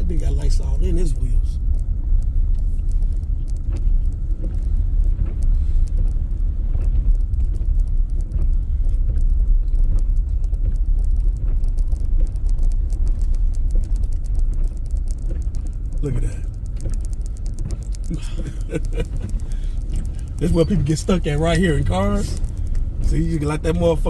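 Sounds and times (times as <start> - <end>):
vehicle driving through snow: 0.0 - 24.0.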